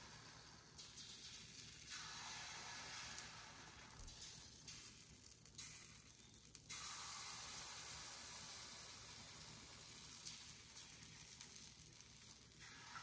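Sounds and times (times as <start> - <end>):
pancake batter sizzling on griddle: 0.0 - 13.0.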